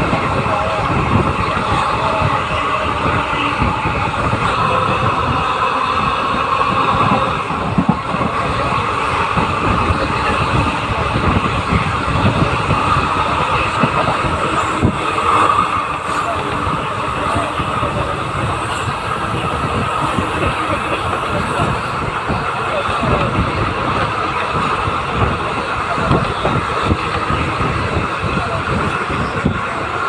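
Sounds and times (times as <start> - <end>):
train rumbling and rattling: 0.0 - 30.0.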